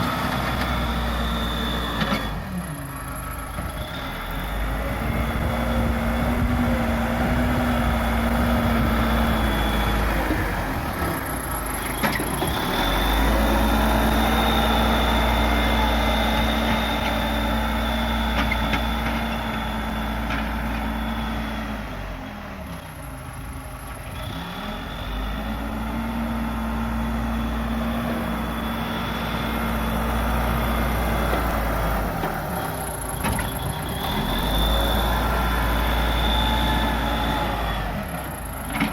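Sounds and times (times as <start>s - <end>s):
diesel engine at high revs: 0.0s - 38.9s.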